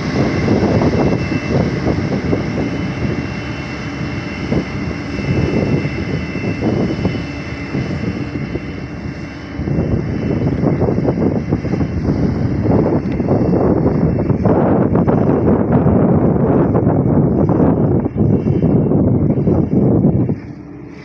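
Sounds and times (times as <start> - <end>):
heavy machinery diesel engine running: 0.0 - 21.0.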